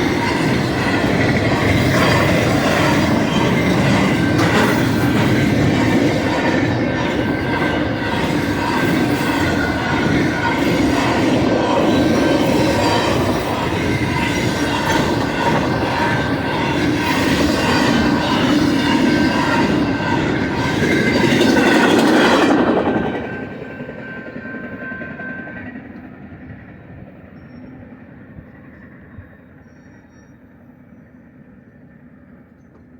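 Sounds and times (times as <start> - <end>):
freight train rumbling past: 0.0 - 32.5
train wheels squealing: 0.0 - 32.9.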